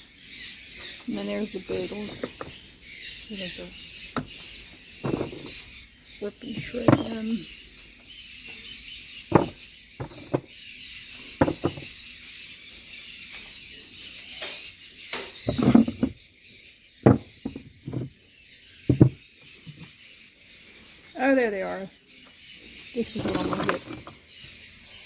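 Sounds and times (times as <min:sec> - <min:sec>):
chatter of caged birds: 0:00.0 - 0:25.0.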